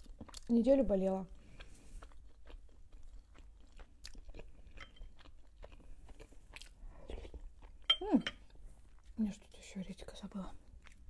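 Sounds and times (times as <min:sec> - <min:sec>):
close chewing: 0:00.0 - 0:09.6, 0:10.6 - 0:11.0.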